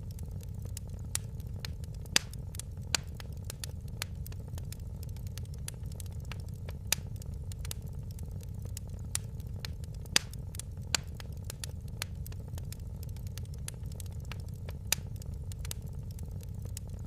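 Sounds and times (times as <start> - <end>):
fireplace fire crackling: 0.0 - 17.0.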